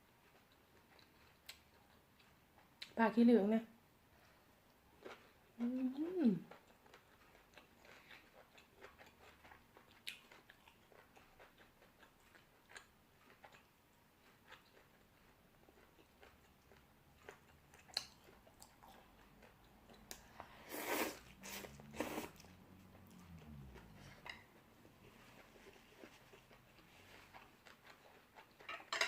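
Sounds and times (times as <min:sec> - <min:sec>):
chewing crisp vegetables: 0:00.1 - 0:03.0, 0:05.0 - 0:29.0.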